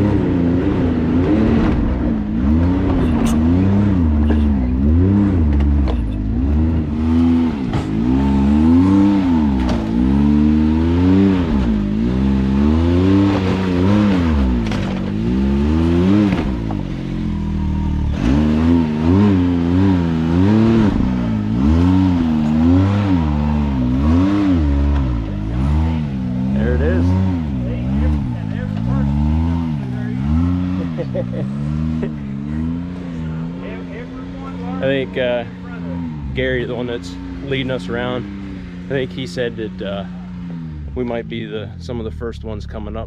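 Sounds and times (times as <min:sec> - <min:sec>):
utv engine revving: 0:00.0 - 0:43.0.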